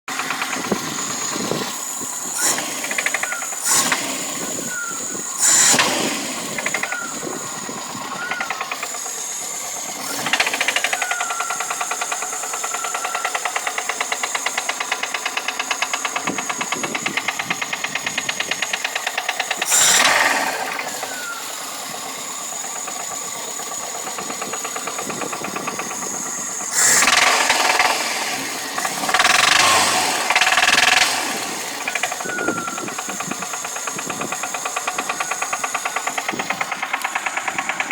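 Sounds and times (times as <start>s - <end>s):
car engine revving: 0.1s - 37.9s
fast engine knocking: 0.1s - 37.9s.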